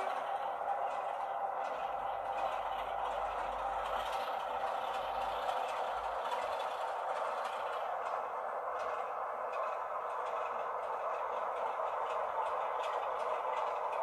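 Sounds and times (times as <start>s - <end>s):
model trains rattling on track: 0.0s - 14.0s.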